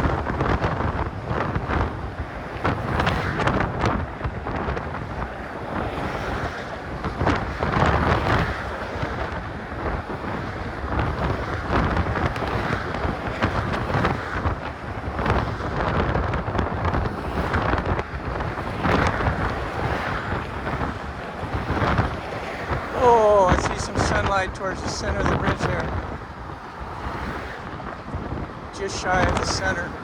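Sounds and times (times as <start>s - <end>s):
muffled wind buffeting microphone: 0.0s - 30.0s.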